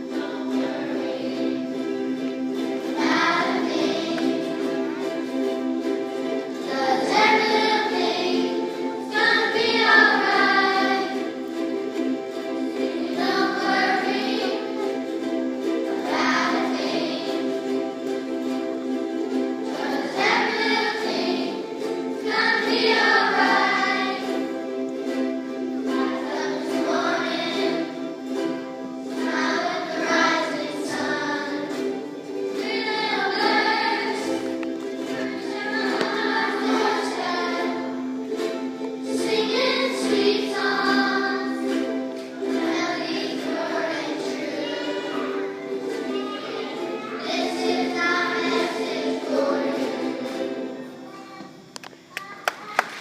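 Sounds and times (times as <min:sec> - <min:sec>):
choir singing: 0:00.0 - 0:51.6
instrumental accompaniment: 0:00.0 - 0:52.3.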